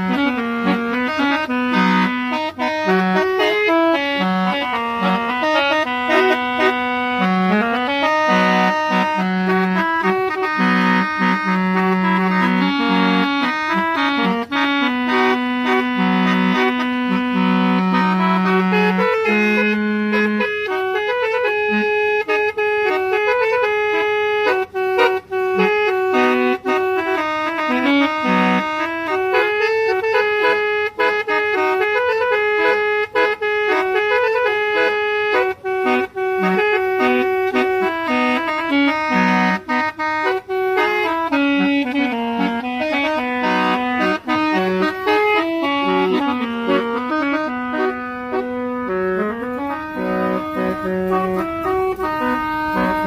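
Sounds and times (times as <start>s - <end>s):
reedy horn melody: 0.0s - 53.0s.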